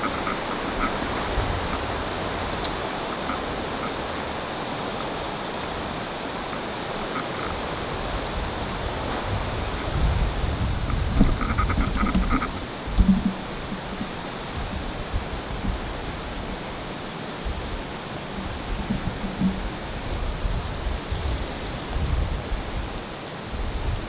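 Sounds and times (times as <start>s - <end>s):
low wind buffeting: 0.0s - 24.0s
wind on microphone: 0.0s - 24.0s.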